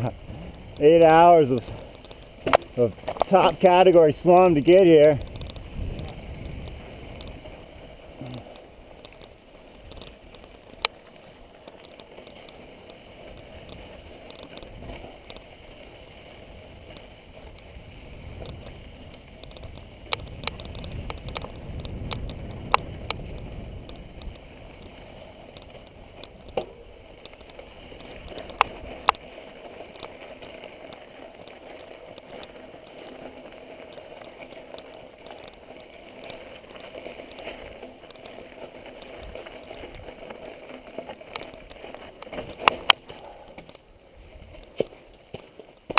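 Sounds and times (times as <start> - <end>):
bike tyres rattling over trail: 0.0 - 45.9
bike knocking on rocks: 0.3 - 15.6, 16.7 - 45.9.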